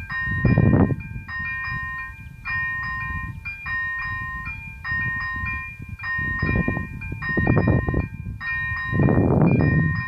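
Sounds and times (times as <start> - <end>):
level crossing bell ringing: 0.0 - 10.0.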